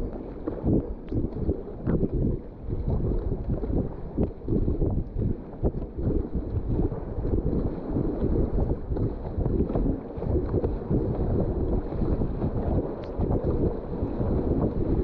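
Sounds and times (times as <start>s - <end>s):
wind buffeting on microphone: 0.0s - 15.0s.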